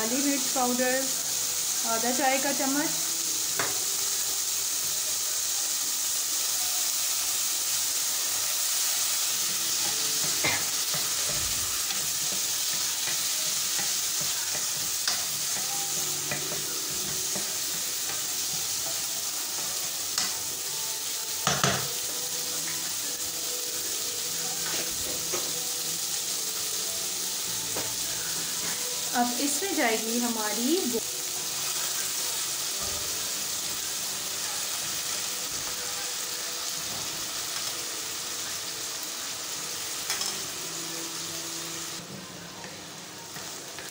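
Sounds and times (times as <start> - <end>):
food sizzling in a wok: 0.0 - 43.9.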